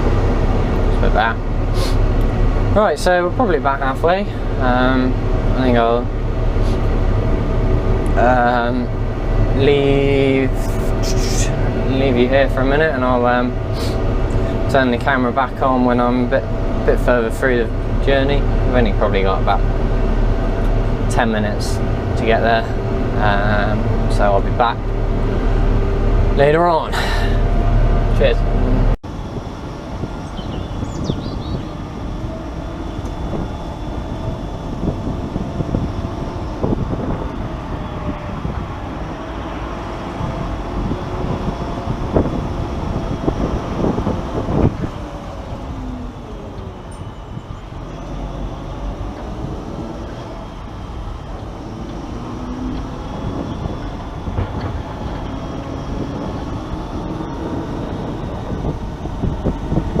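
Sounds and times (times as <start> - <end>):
tractor engine drone: 0.0 - 60.0
trailer rattling and knocking: 0.0 - 60.0.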